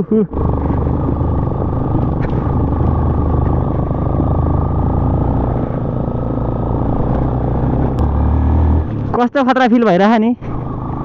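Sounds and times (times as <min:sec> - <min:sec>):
motorcycle engine running: 0:00.3 - 0:09.2.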